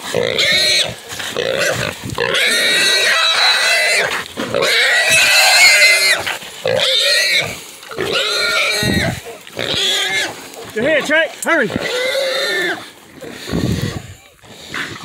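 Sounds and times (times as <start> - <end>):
hog squealing: 0.2 - 11.1, 11.7 - 12.8.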